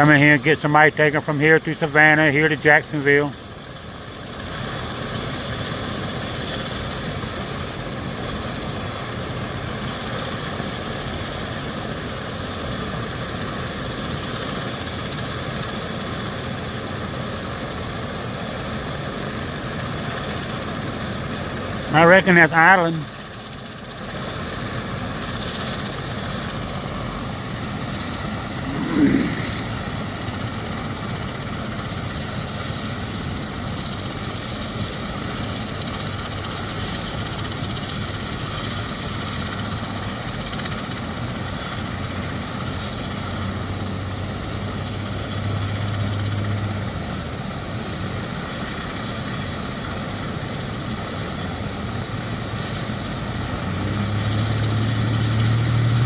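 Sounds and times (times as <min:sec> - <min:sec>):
helicopter engine and rotor whir: 0:00.0 - 0:56.0.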